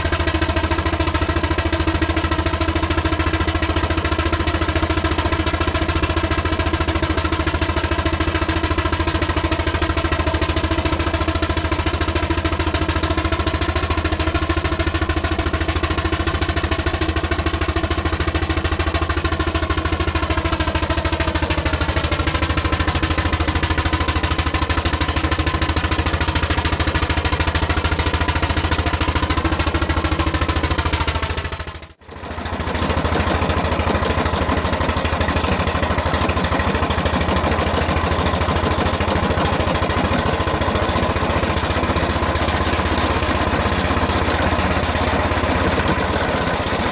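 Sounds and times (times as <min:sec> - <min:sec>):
engine running with clattering beat: 0:00.0 - 0:46.9.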